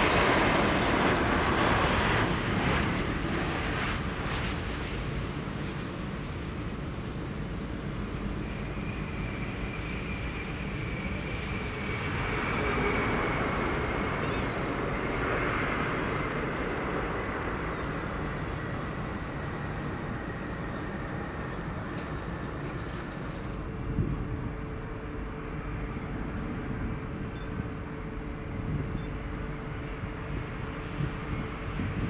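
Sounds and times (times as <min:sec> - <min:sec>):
high jet engine whine: 0:00.0 - 0:32.0.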